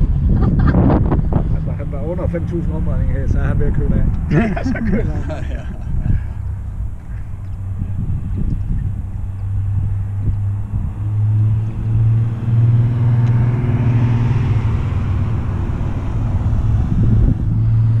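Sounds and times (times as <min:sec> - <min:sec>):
sports car engine: 0:00.0 - 0:18.0.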